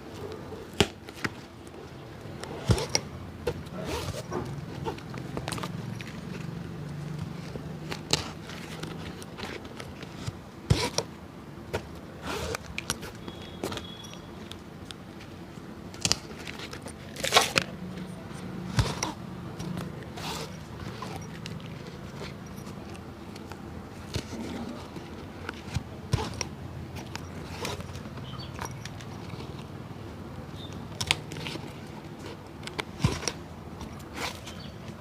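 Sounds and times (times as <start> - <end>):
tapping and scraping on a shoe: 2.3 - 35.0.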